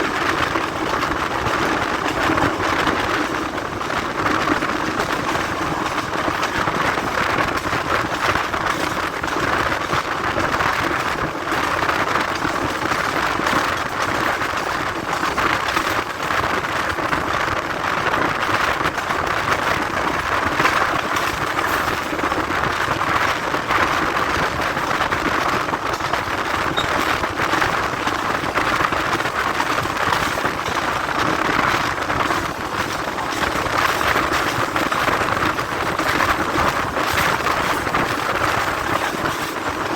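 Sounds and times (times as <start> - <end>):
train running on track: 0.0 - 39.9.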